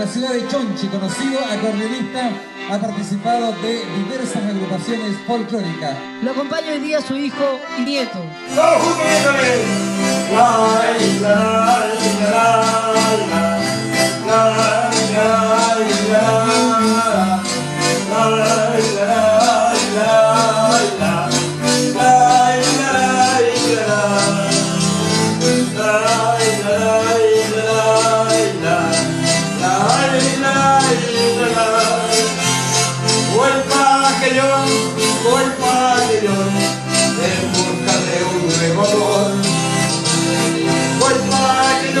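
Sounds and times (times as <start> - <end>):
accordion folk music: 0.0 - 42.0.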